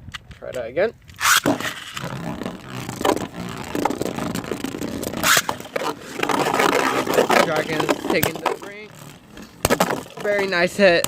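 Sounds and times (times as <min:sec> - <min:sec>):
ripcord zip: 0:01.2 - 0:10.9
spinning tops grinding on plastic: 0:01.2 - 0:11.0.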